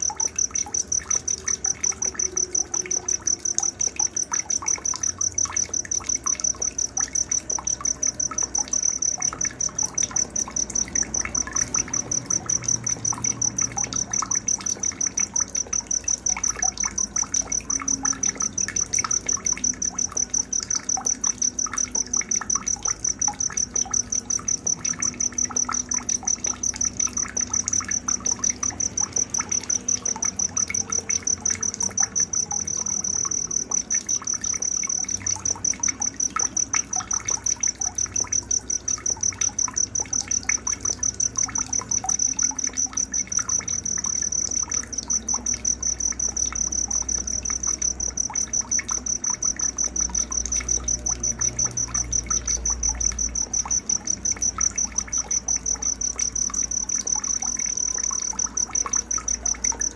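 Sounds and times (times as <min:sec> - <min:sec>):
cricket trilling: 0:00.0 - 0:59.9
faint trickle of water: 0:00.0 - 0:59.9.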